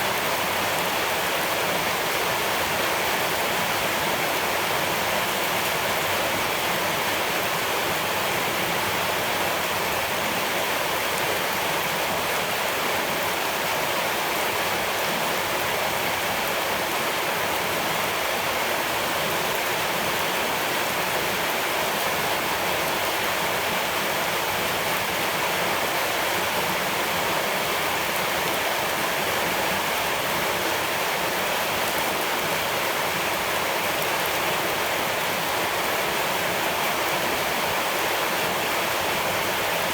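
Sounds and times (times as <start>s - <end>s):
rushing flowing water: 0.0s - 39.9s.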